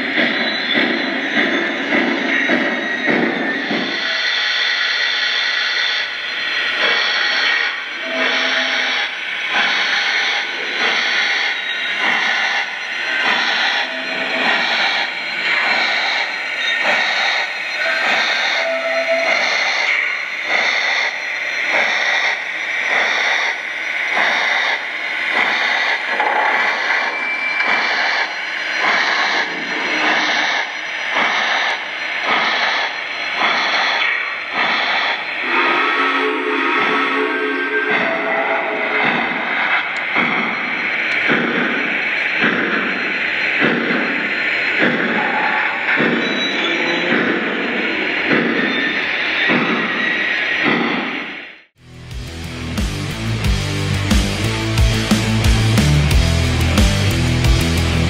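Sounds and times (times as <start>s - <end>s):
model steam locomotive chuffing: 0.0s - 51.4s.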